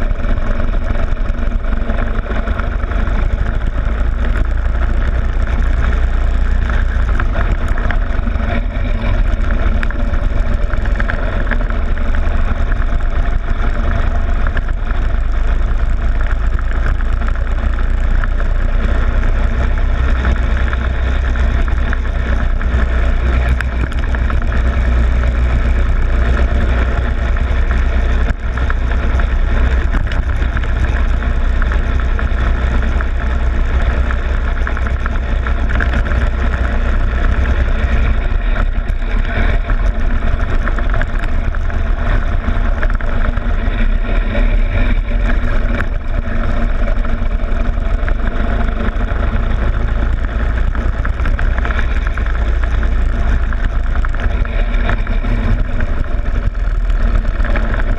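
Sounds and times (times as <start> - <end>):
go-kart engine running: 0.0 - 57.9
wind rumble on camera: 0.0 - 57.9.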